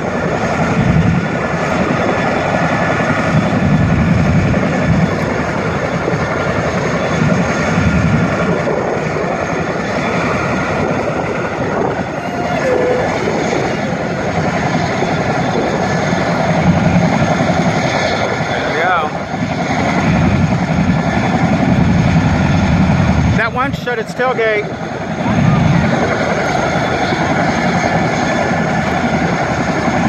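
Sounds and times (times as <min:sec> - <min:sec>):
helicopter rotors throbbing: 0:00.0 - 0:30.0
helicopter turbine whine: 0:00.0 - 0:30.0.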